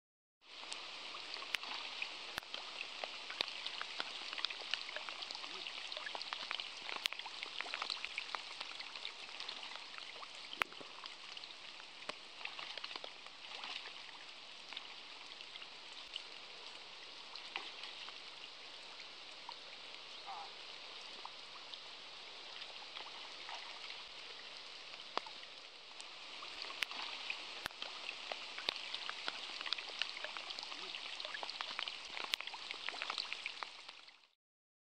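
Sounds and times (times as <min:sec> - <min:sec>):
rain falling on river: 0:00.4 - 0:34.3.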